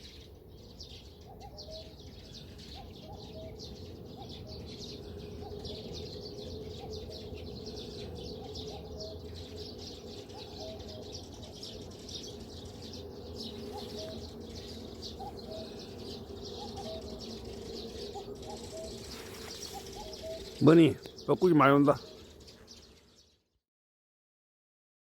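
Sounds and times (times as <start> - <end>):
cuckoos calling: 0.0 - 23.4
songbirds chirping: 0.0 - 23.6.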